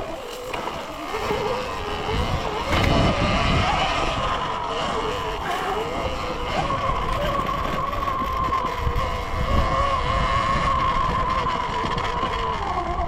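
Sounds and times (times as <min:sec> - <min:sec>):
electric motorbike motor whine: 0:00.0 - 0:13.0.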